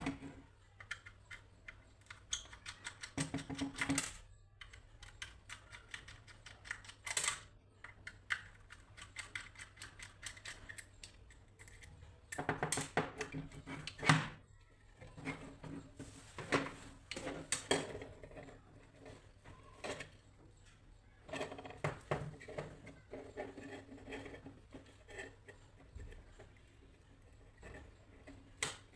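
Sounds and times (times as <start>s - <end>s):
plastic parts clicking and tapping: 0.0s - 28.9s.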